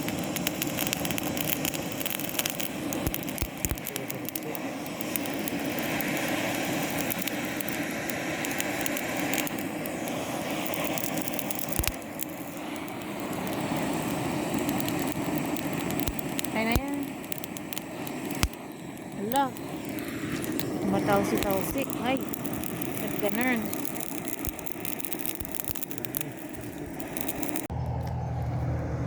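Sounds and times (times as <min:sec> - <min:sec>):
charcoal grill crackling and hissing: 0:00.0 - 0:29.0.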